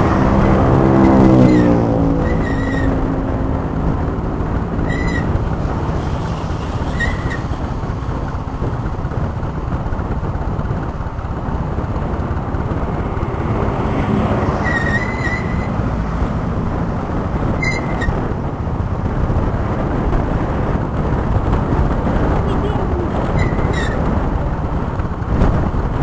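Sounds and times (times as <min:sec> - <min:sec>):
scooter engine running: 0:00.0 - 0:26.0
wind noise on microphone: 0:00.0 - 0:26.0.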